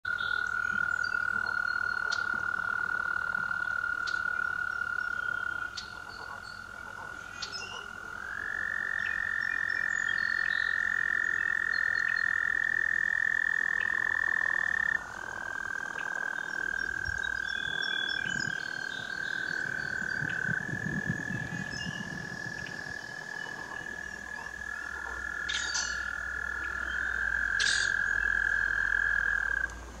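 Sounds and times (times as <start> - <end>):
frogs trilling: 0.0 - 30.0.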